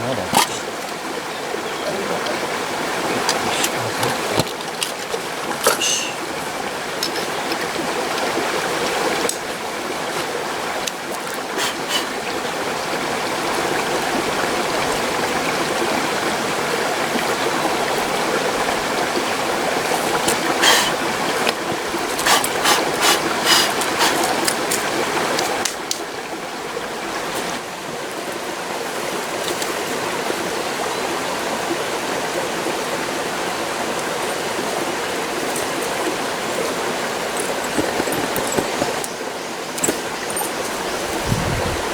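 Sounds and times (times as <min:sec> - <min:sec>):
mountain stream flowing: 0:00.0 - 0:41.9.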